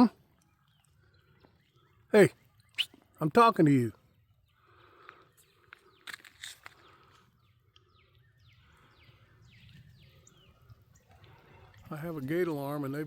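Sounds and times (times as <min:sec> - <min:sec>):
bird-like chirps: 0:00.0 - 0:12.9
faint outdoor ambience: 0:00.0 - 0:13.0.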